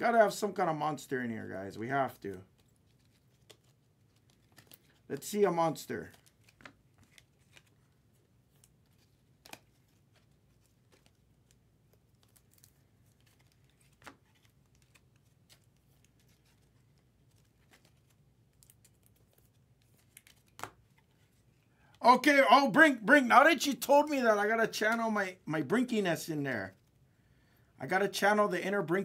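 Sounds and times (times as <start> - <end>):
trading cards and foil packs rustling: 0.3 - 25.1.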